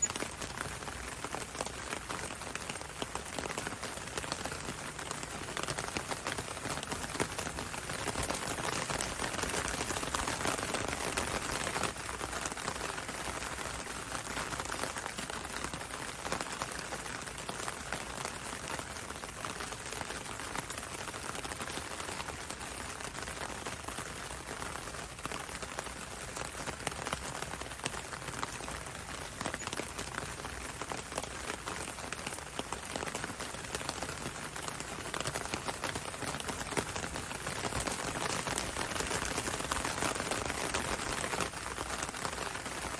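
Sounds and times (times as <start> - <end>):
rain on window and road: 0.0 - 42.9.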